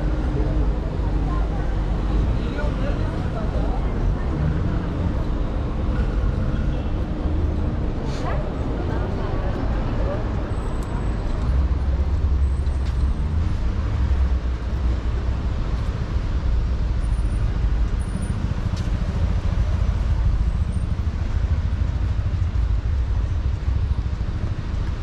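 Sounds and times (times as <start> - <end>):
cars passing on city road: 0.0 - 25.0.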